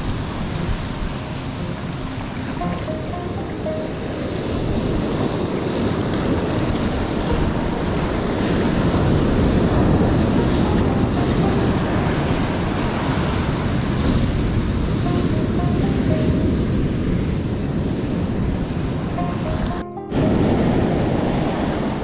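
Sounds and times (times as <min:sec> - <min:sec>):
ocean surf washing ashore: 0:00.0 - 0:22.0
wind buffeting microphone: 0:00.0 - 0:22.0.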